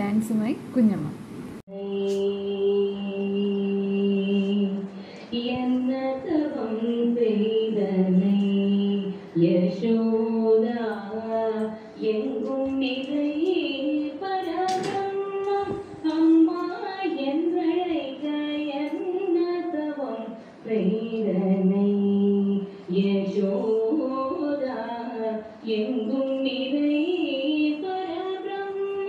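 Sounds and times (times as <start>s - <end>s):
woman singing: 1.7s - 29.0s.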